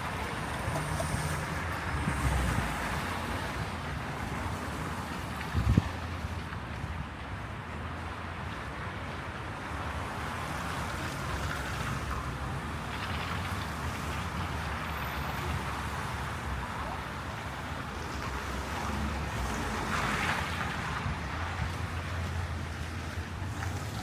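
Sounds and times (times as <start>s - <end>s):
city traffic on snowy roads: 0.0s - 24.0s.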